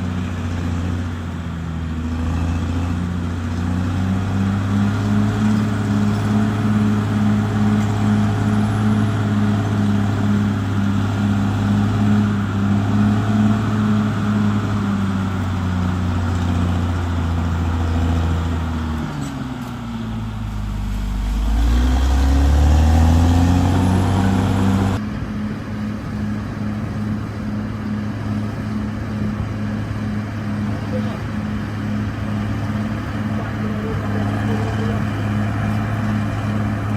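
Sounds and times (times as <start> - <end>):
heavy equipment diesel engine running: 0.0 - 36.9.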